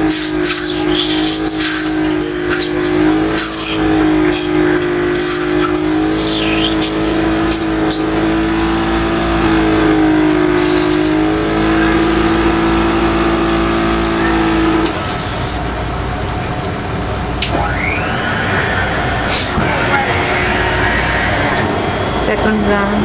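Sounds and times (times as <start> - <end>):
machine buzzing hum: 0.0 - 23.0
rushing noise: 0.0 - 23.0.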